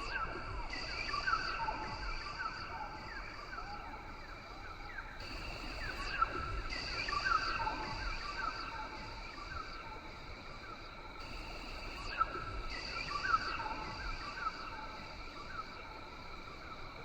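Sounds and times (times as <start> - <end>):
high insect drone: 0.1 - 17.0.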